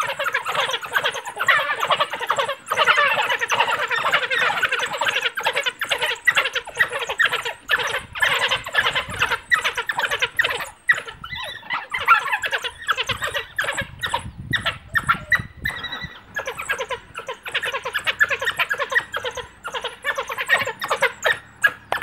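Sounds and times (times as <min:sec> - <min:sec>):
wild dogs chirping and squealing: 0:00.0 - 0:22.0.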